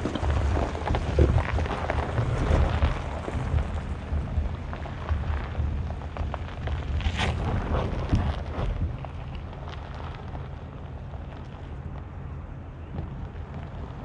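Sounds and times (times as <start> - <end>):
low uneven rumble: 0.0 - 14.0
tyres crunching over gravel: 0.0 - 14.0.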